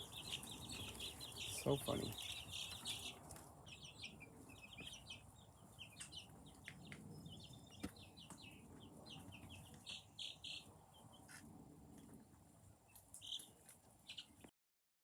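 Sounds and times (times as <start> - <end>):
chicks cheeping: 0.0 - 14.5.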